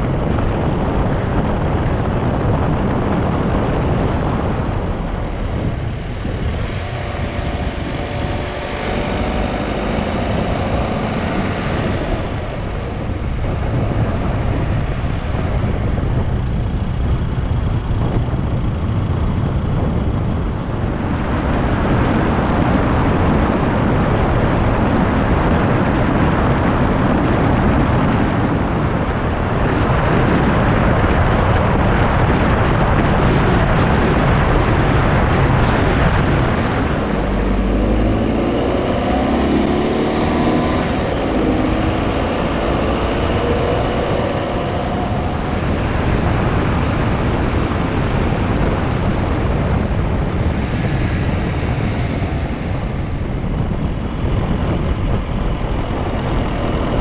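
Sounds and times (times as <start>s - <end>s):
car driving on wet road: 0.0s - 17.6s, 20.4s - 57.0s.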